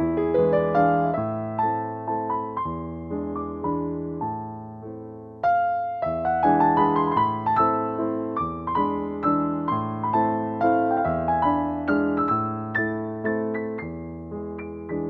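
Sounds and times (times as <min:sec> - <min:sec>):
background piano music: 0:00.0 - 0:15.0.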